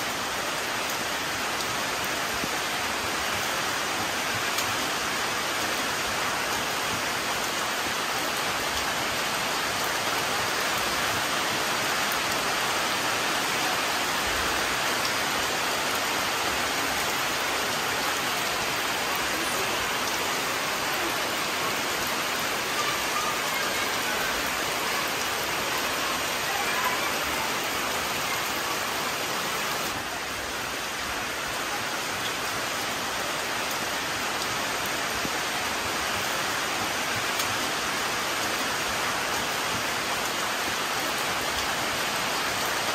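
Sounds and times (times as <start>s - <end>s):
rain falling on leaves: 0.0s - 42.9s.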